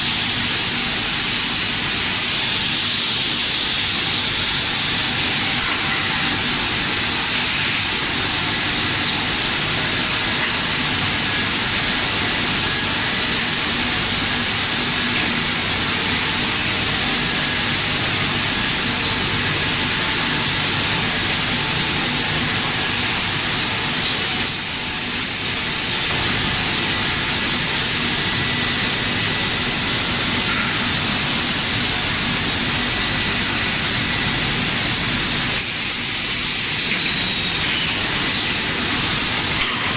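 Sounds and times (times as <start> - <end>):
constant high whine: 0.0 - 39.9.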